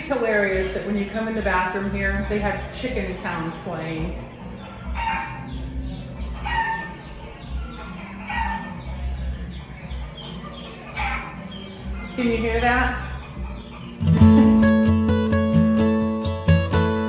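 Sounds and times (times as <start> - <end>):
hen clucking over loudspeaker: 0.5 - 15.1.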